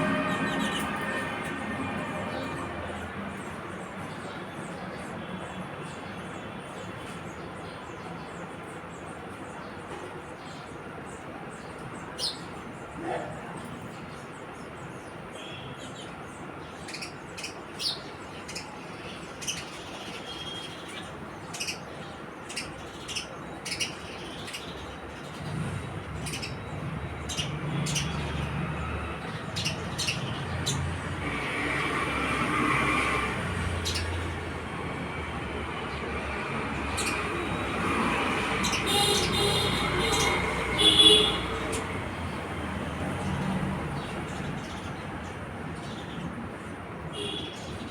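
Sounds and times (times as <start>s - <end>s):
house sparrows chirping: 0.0s - 13.0s, 13.7s - 47.9s
low rumble of traffic: 0.0s - 47.9s.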